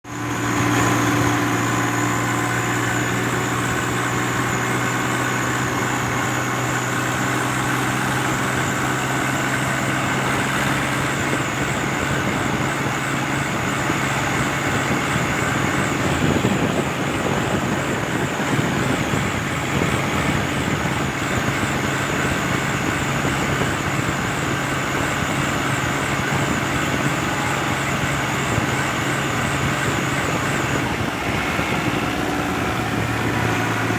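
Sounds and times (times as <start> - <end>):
tractor diesel engine drone: 0.0 - 33.9.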